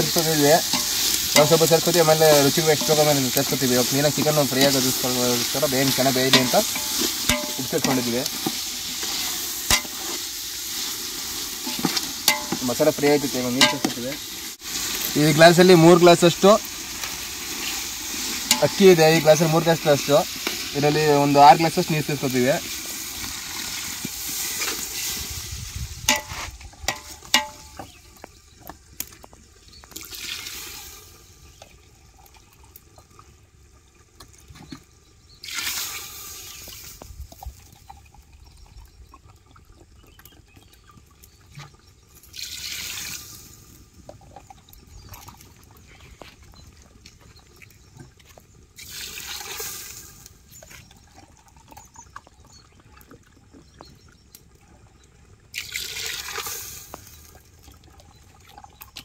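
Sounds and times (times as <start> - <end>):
water pouring into a pot: 0.0 - 34.5, 35.1 - 46.5, 48.4 - 59.0.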